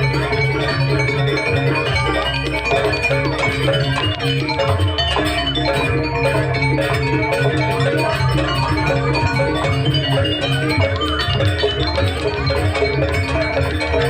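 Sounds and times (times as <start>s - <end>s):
drums: 0.0s - 14.0s
metallophones ringing: 0.0s - 14.0s.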